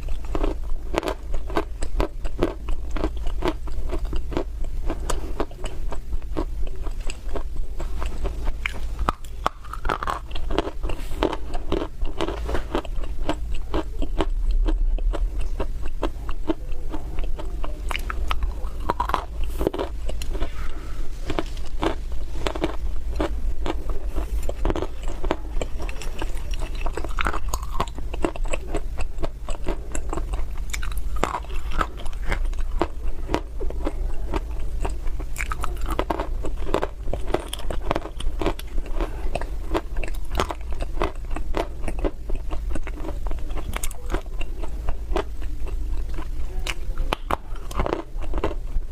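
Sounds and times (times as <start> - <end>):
chewing crunchy clay chunks: 0.0 - 48.9.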